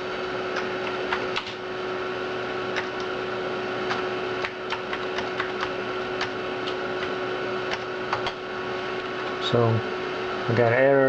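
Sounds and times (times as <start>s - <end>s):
computer whine and hum: 0.0s - 11.0s.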